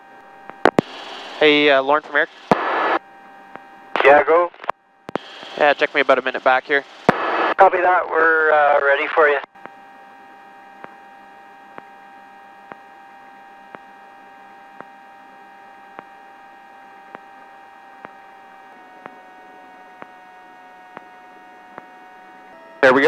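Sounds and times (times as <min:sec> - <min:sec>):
faint steady whine of tones: 0:00.0 - 0:23.0.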